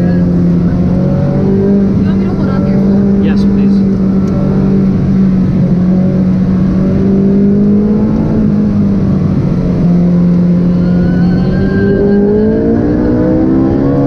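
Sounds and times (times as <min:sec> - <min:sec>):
car engine pulling hard: 0:00.0 - 0:14.0.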